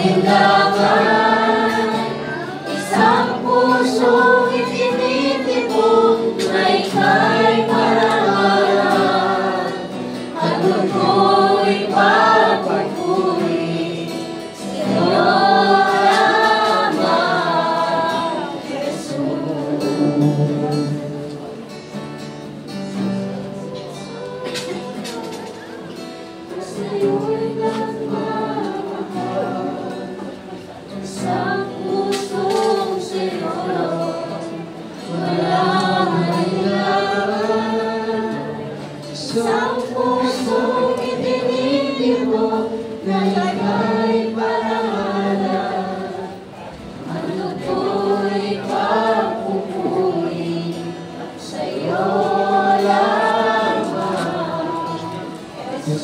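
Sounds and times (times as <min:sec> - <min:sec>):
acoustic guitar strummed: 0:00.0 - 0:56.0
group singing worship song: 0:00.0 - 0:56.0.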